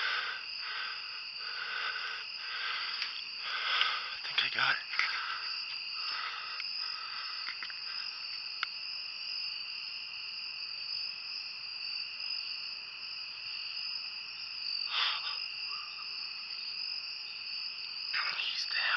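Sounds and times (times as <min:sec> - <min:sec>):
crickets chirring: 0:00.0 - 0:18.9.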